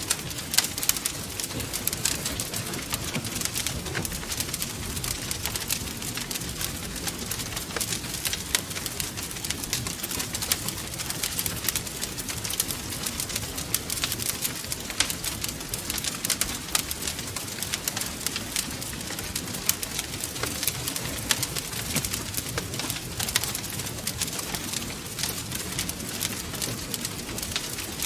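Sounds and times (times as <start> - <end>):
wood fire crackling: 0.0 - 28.0
pops and snaps of fire: 0.1 - 28.0.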